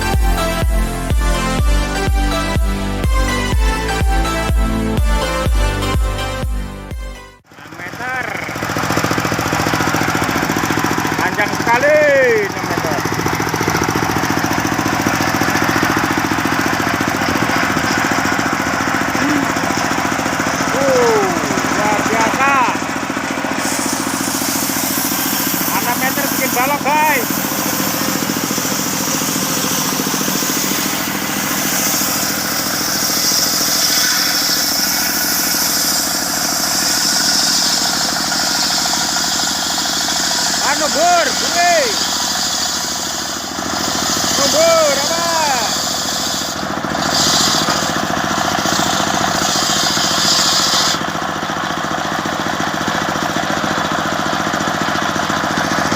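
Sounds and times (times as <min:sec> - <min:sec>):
circular saw blade whine: 0:00.0 - 0:52.7
sawmill engine running: 0:00.0 - 0:55.9.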